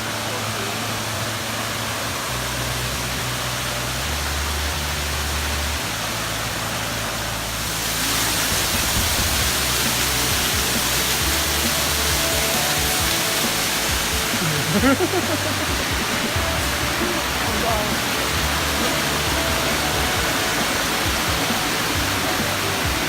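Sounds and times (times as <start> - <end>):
low background music: 0.0 - 23.0
waterfall roaring: 0.0 - 23.0.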